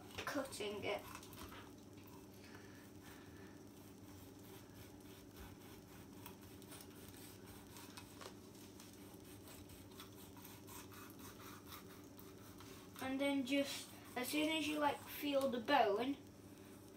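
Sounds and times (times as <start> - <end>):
low room hum: 0.0 - 16.9.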